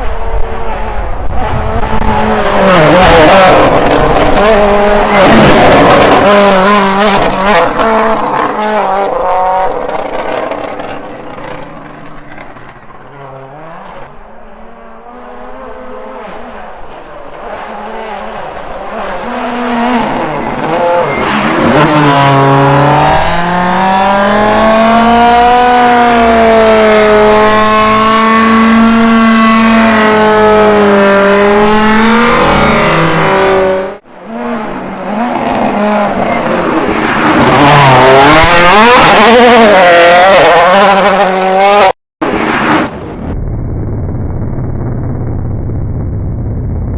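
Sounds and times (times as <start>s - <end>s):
rally car engines revving: 0.0s - 43.0s.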